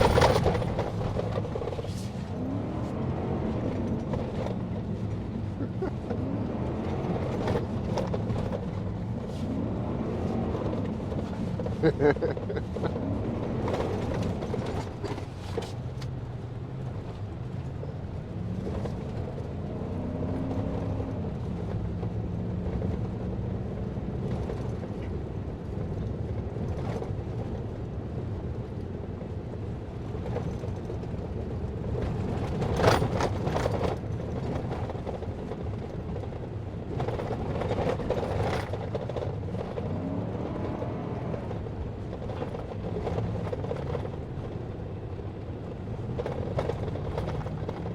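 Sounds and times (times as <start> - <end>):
vehicle body creaks and rattles: 0.0 - 19.7, 20.4 - 47.9
vehicle engine running: 0.0 - 28.0, 29.9 - 47.9.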